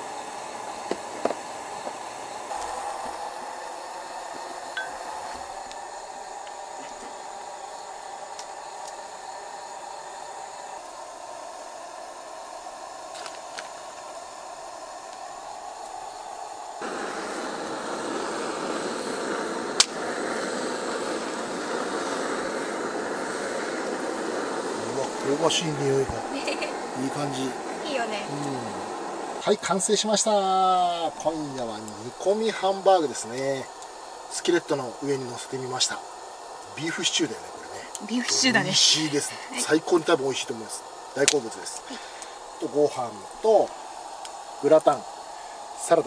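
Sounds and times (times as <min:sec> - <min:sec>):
gas flame hissing: 0:00.0 - 0:46.0.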